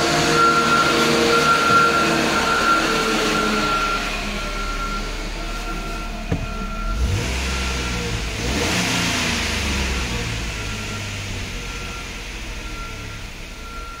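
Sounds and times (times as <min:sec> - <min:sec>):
car engine running inside cabin: 0:00.0 - 0:14.0.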